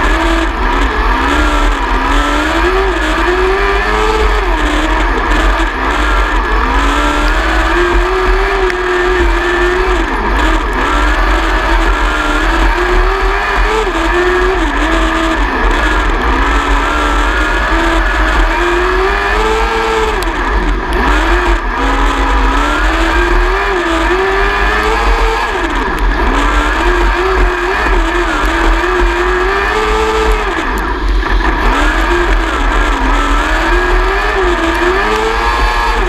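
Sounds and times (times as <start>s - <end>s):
racing engine revving: 0.0s - 36.0s.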